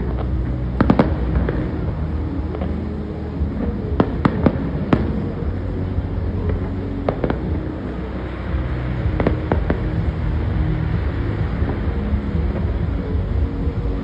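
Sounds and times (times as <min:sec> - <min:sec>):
fireworks bangs: 0:00.0 - 0:14.0
low background rumble: 0:00.0 - 0:14.0.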